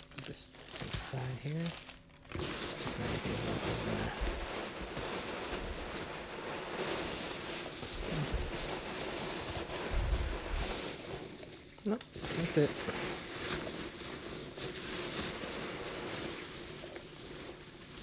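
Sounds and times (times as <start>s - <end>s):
packing peanuts rustling: 0.0s - 18.0s.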